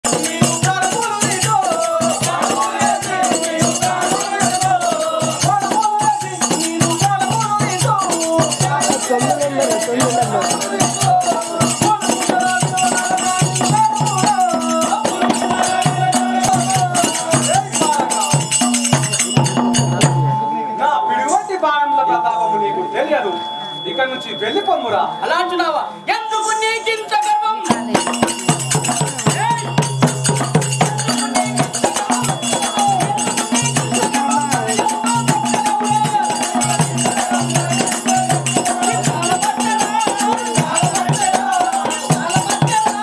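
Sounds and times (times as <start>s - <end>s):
drum steady beat: 0.0s - 20.4s, 27.6s - 43.0s.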